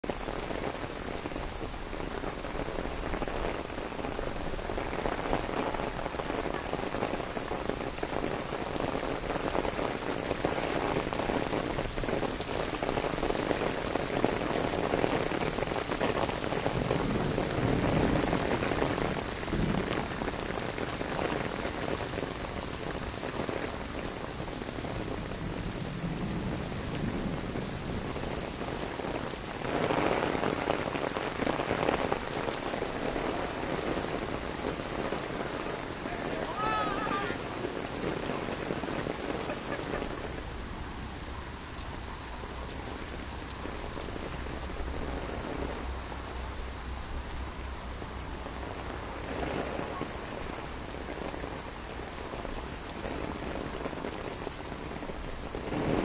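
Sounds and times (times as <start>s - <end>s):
heavy rain on stone paving: 0.0s - 56.0s
raindrops ticking on umbrella: 0.0s - 56.0s.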